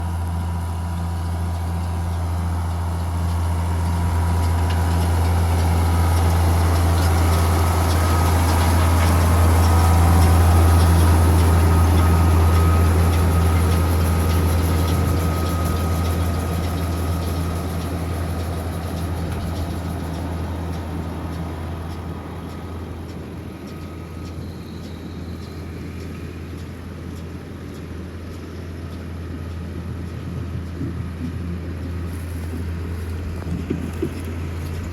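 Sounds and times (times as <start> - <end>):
tractor engine humming: 0.0 - 34.9.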